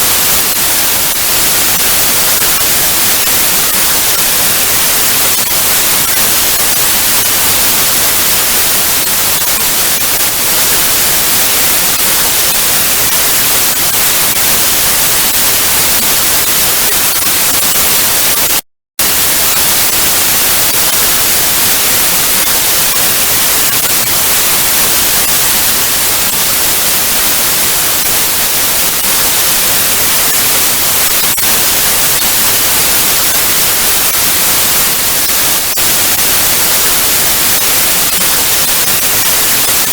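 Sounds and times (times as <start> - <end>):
tv static hiss: 0.0 - 39.9.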